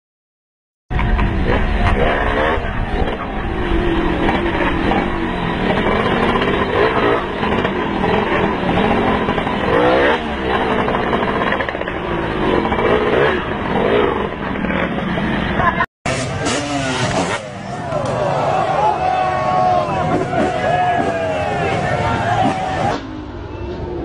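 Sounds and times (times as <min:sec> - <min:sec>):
dirt bike engine revving: 0:01.0 - 0:23.7.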